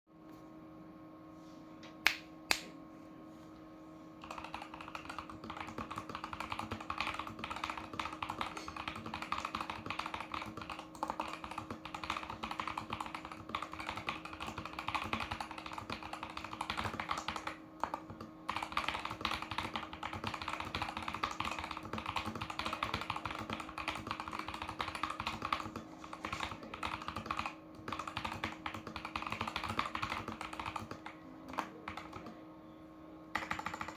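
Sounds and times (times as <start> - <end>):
sharp keyboard clicks: 4.2 - 32.3, 33.3 - 33.9
typing on mechanical keyboard: 4.2 - 32.4, 33.3 - 33.9.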